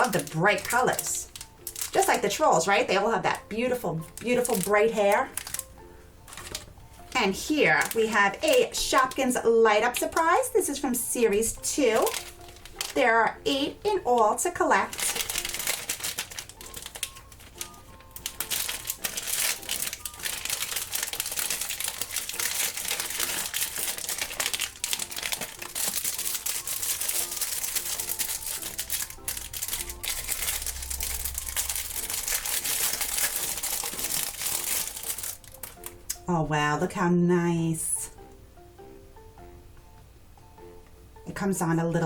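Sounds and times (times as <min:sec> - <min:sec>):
plastic wrapper crinkling: 0:00.0 - 0:36.2
background music: 0:00.0 - 0:42.0.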